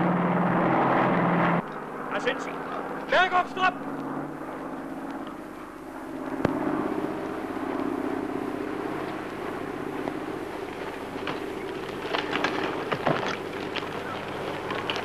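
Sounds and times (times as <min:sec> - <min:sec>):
propeller aircraft droning overhead: 0:00.0 - 0:15.0.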